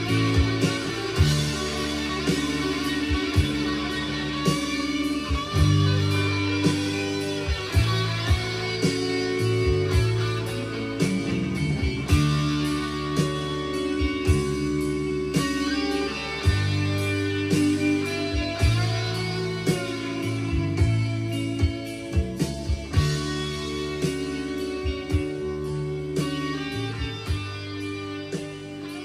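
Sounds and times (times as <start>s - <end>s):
bass line: 0.0s - 29.0s
electric guitar: 0.0s - 29.0s.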